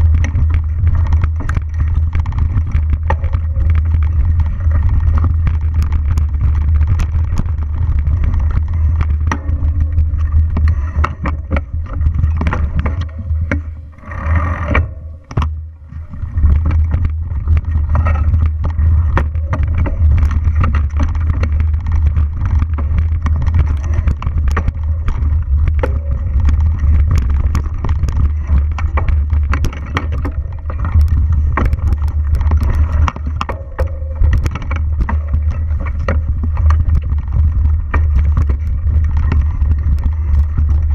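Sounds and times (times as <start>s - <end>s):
bike rattling over bumps: 0.0s - 40.9s
wind rumble on microphone: 0.0s - 40.9s.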